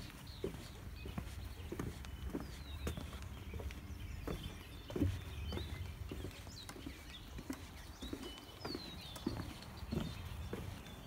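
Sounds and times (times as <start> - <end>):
boots on wooden boardwalk: 0.0 - 11.0
faint bird chirps: 0.0 - 11.0.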